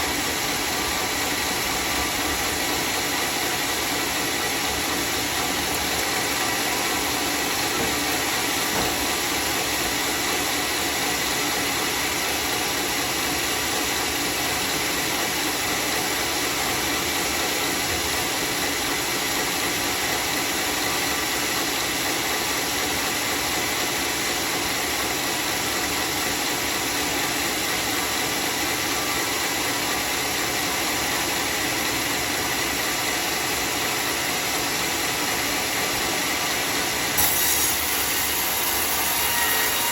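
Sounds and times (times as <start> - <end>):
circular saw cutting wood: 0.0 - 19.8, 25.6 - 39.9.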